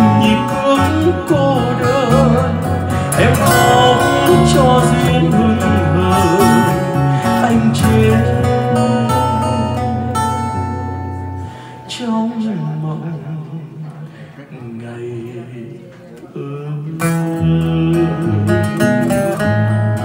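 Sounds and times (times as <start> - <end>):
acoustic guitar strummed and plucked: 0.0 - 13.0, 16.8 - 20.0
man singing into a microphone: 0.0 - 20.0.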